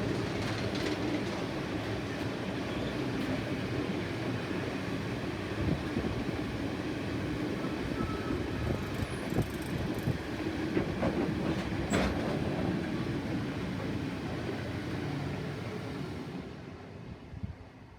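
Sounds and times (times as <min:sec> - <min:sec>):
freight train wheels rumbling: 0:00.0 - 0:16.7.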